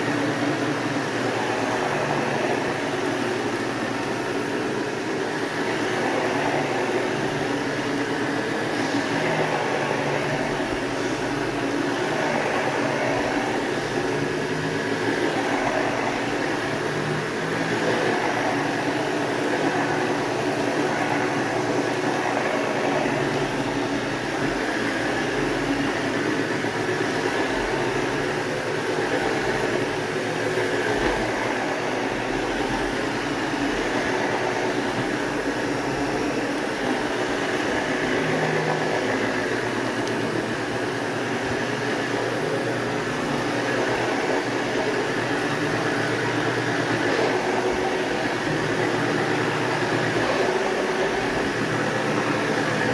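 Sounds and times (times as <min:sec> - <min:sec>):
vacuum cleaner on carpet: 0:00.0 - 0:52.9.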